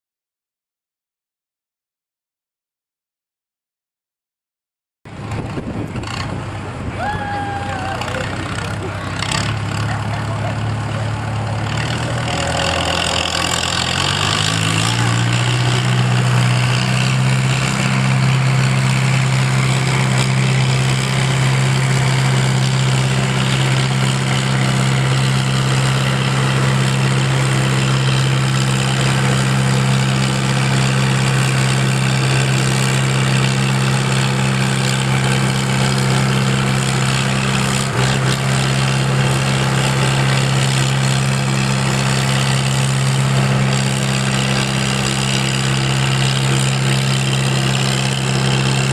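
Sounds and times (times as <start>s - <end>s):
vehicle engine idling: 5.1s - 48.9s.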